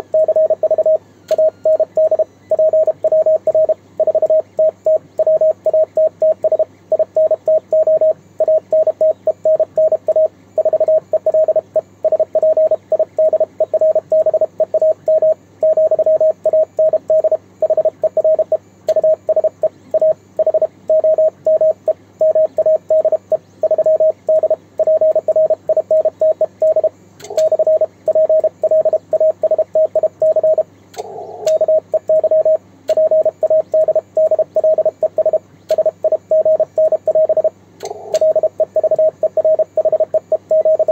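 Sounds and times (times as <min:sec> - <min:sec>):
morse code tone: 0:00.0 - 0:30.6, 0:31.5 - 0:40.9
faint steady hum: 0:00.0 - 0:40.9.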